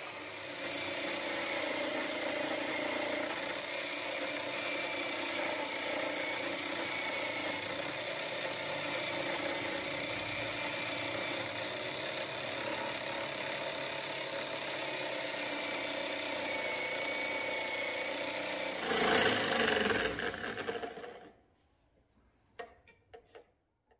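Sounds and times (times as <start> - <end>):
electric drill motor whir: 0.0 - 21.3.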